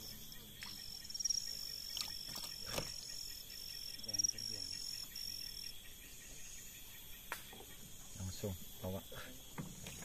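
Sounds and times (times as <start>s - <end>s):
insect trilling: 0.0s - 10.0s.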